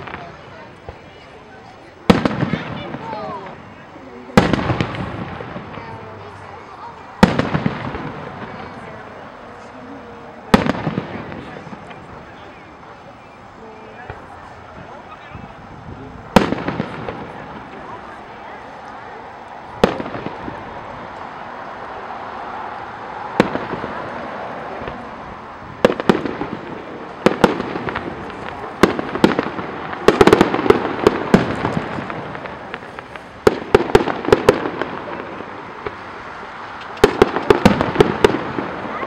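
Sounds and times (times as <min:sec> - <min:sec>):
crackling firework reports: 0:00.0 - 0:39.0
fireworks bangs: 0:00.0 - 0:39.0.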